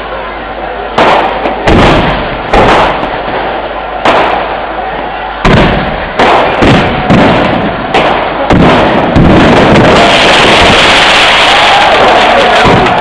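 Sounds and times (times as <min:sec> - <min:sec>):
firework bangs: 0:00.0 - 0:13.0
fireworks crackling: 0:00.0 - 0:13.0.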